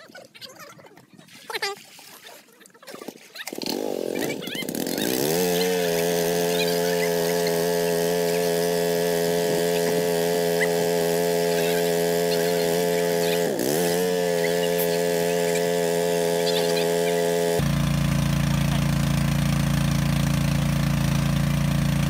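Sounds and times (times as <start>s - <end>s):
small engine running: 3.4s - 22.0s.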